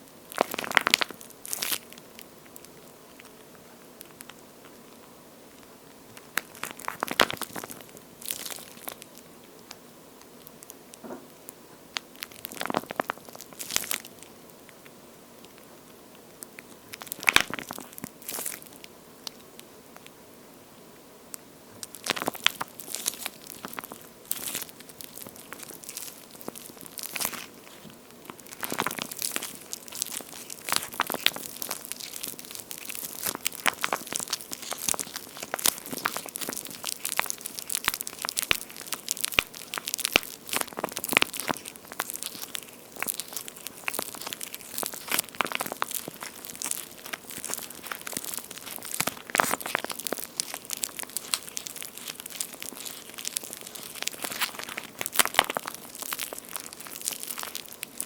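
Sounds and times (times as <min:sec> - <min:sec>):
squishy toy crackling: 0:00.0 - 0:04.8, 0:05.6 - 0:11.0, 0:12.0 - 0:20.1, 0:21.8 - 0:58.0.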